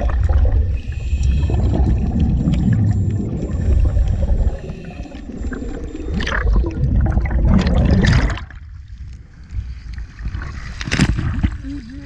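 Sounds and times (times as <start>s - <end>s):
underwater exhaust bubbles: 0.0s - 11.6s
water lapping and splashing: 0.0s - 12.0s.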